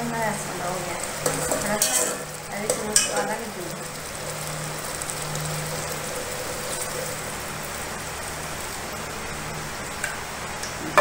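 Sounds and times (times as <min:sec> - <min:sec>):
grain sizzling in a pot: 0:00.0 - 0:11.0.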